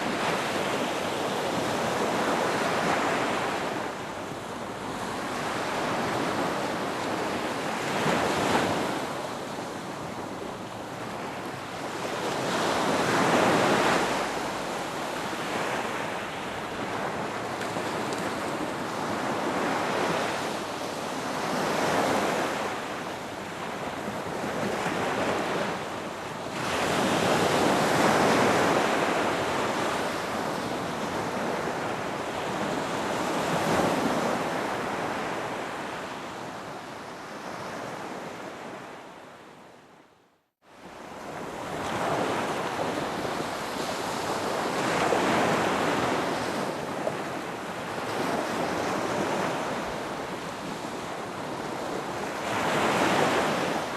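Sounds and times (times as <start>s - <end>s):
ocean waves breaking on beach: 0.0s - 39.7s, 40.6s - 53.9s.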